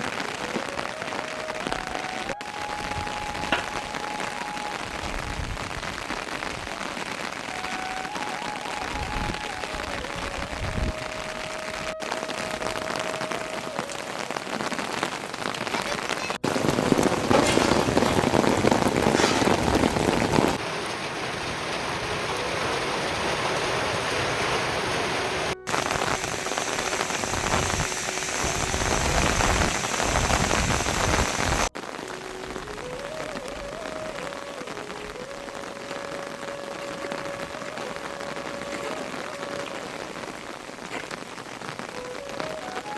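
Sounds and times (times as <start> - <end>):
rain pattering on surfaces: 0.0 - 42.9.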